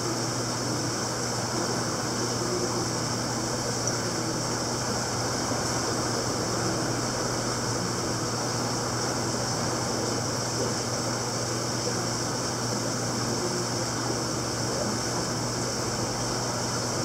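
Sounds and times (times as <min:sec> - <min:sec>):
aquarium equipment humming: 0:00.0 - 0:17.0
circulating water hiss: 0:00.0 - 0:17.0.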